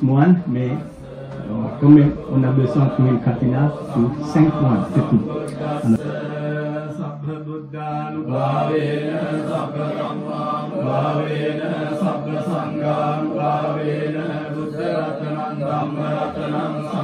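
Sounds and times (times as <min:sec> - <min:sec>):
monks chanting: 0:00.0 - 0:17.0.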